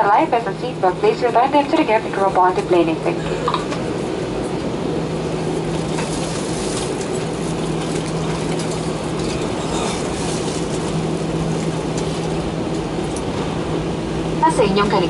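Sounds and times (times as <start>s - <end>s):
jet engine drone in cabin: 0.0s - 15.0s
low hum: 0.0s - 15.0s.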